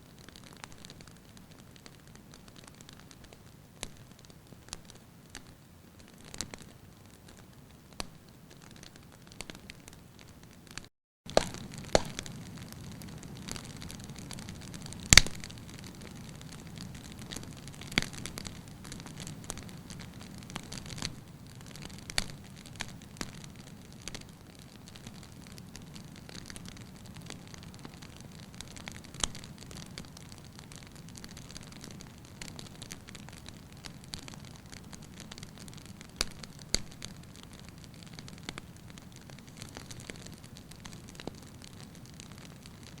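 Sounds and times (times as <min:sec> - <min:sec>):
wood fire crackling: 0:00.0 - 0:43.0
sharp pops of fire: 0:00.1 - 0:43.0.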